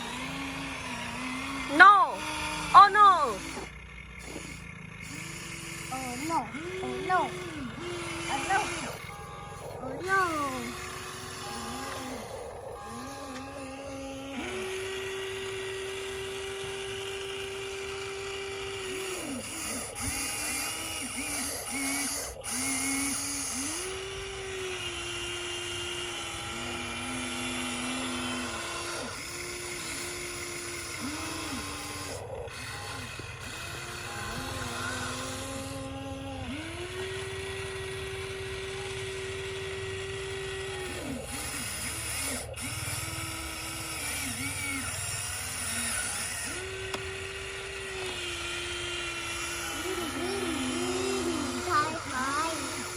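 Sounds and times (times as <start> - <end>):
small electric motors whining: 0.0 - 52.9.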